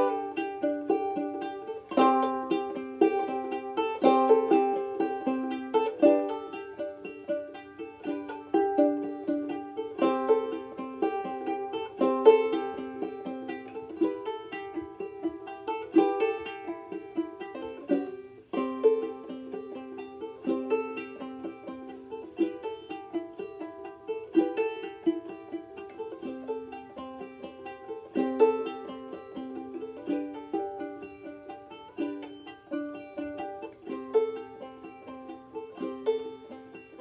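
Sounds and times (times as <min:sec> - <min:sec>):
banjolele plucked notes and chords: 0:00.0 - 0:37.0.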